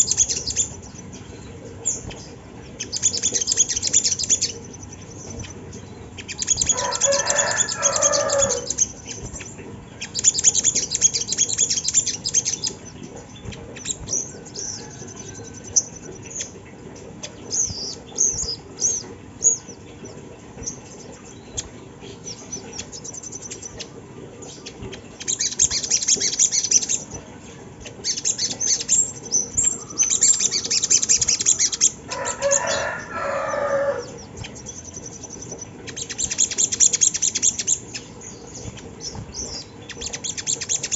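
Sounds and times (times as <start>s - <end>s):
bird twittering: 0.0s - 16.6s, 17.2s - 27.3s, 27.9s - 40.9s.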